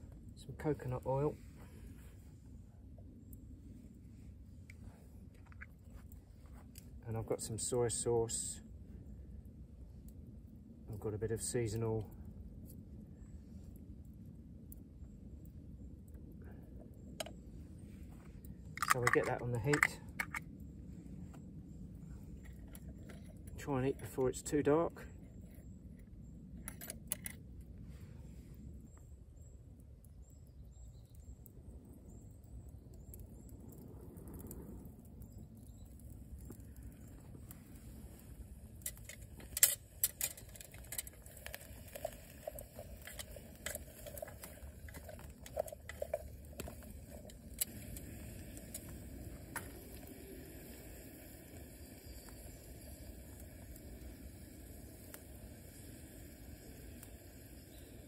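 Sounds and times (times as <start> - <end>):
campfire rumble: 0.0 - 58.0
fire pops and crackles: 0.0 - 58.0.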